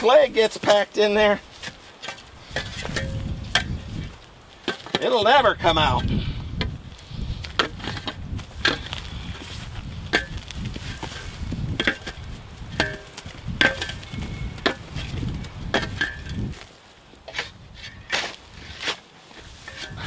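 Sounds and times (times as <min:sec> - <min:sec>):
shovel chopping and tamping soil: 0:00.0 - 0:06.8, 0:07.4 - 0:20.0
low wind rumble: 0:02.2 - 0:04.7, 0:05.3 - 0:20.0.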